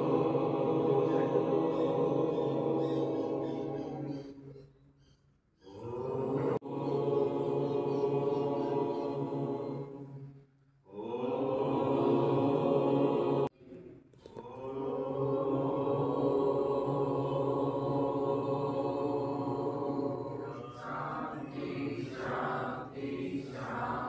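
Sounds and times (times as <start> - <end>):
voices chanting held notes: 0.0 - 4.7, 5.6 - 24.0.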